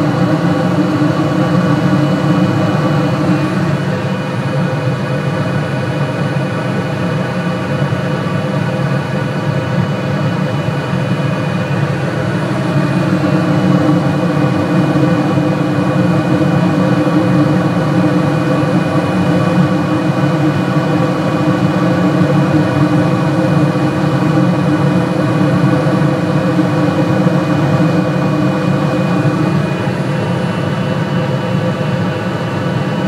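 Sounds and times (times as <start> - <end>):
hvac unit fans and burner droning: 0.0 - 33.0.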